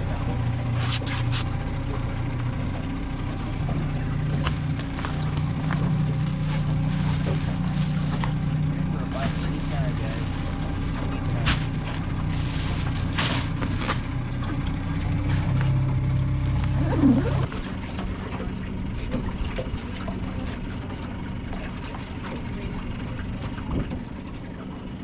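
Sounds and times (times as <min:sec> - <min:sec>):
boat motor running: 0:00.0 - 0:25.0.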